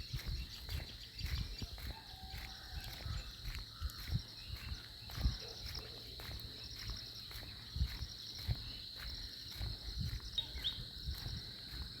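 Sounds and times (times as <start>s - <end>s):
insect chorus with pulsing trill: 0.0s - 12.0s.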